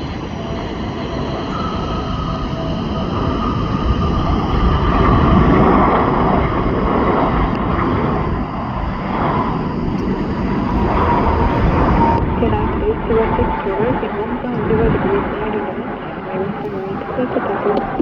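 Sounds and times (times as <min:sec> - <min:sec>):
jet airliner passing: 0:00.0 - 0:18.0.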